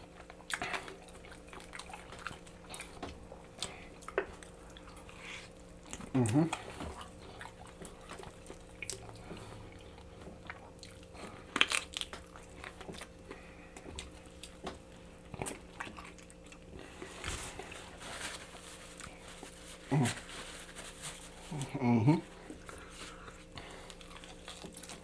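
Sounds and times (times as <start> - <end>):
person chewing and biting: 0.0 - 20.2, 21.1 - 25.0.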